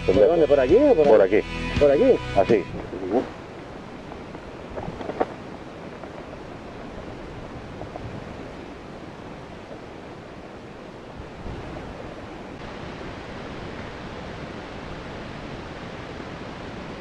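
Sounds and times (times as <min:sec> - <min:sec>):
wind buffeting microphone: 0:00.2 - 0:17.0.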